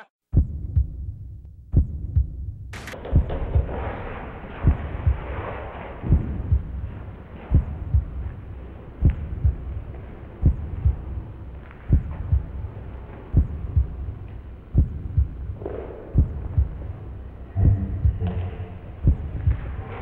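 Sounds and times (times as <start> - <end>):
heartbeat thumps: 0.3 - 20.0.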